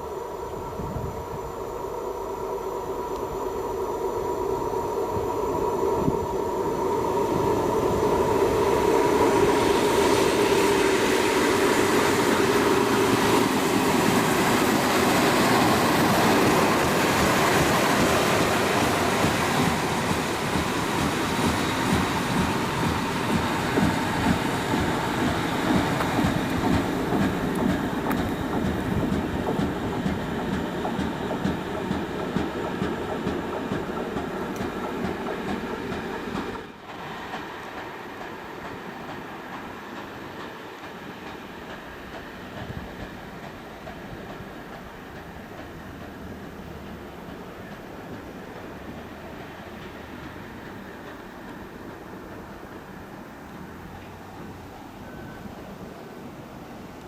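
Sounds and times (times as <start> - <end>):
diesel locomotive engine: 0.0 - 57.0
train wheels clicking over rail joints: 6.0 - 57.0.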